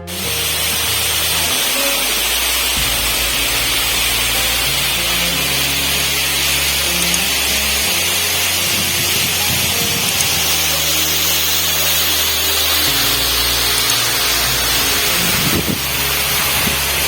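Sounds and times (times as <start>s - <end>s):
background music with low notes: 0.0s - 17.0s
steady rushing hiss: 0.0s - 17.0s.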